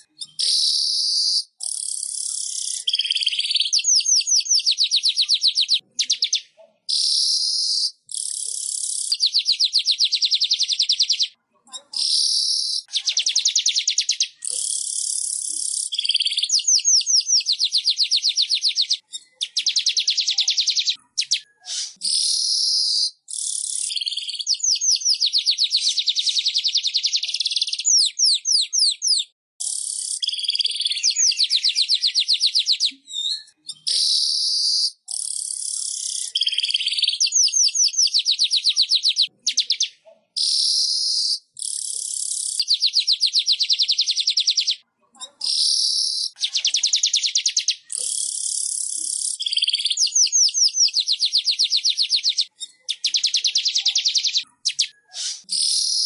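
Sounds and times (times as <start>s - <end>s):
bird buzzy chattering trills: 0.0s - 32.6s, 33.5s - 44.8s, 45.5s - 56.0s.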